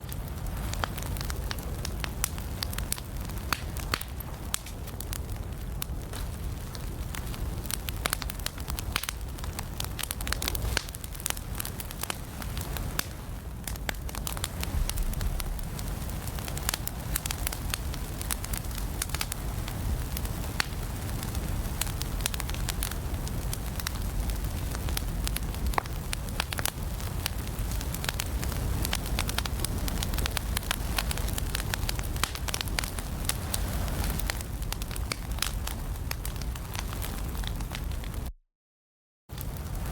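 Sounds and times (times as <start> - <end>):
fire crackling and popping: 0.0 - 38.3, 39.3 - 39.9
low rumble of flames: 0.0 - 38.3, 39.3 - 39.9.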